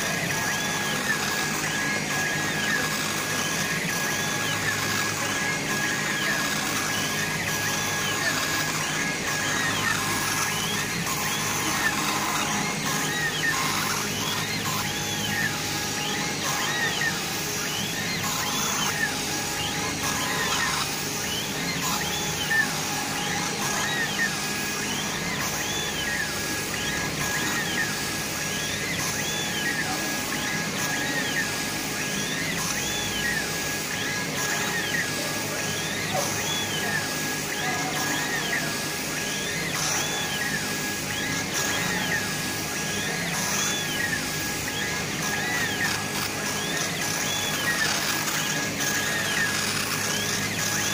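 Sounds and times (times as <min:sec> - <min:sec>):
stepper motors whining: 0:00.0 - 0:50.9.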